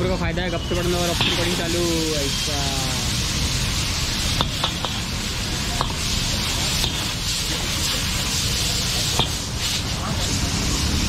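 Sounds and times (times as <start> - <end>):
gas burner flame: 0.0 - 11.0
food sizzling in a wok: 0.4 - 11.0.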